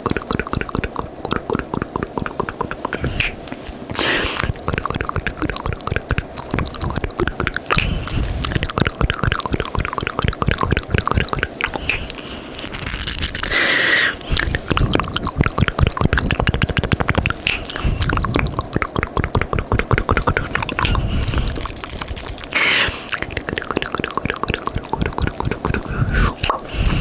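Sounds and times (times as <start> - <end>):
tongue clicks and smacks: 0.0 - 27.0
wet mouth sounds: 0.0 - 27.0.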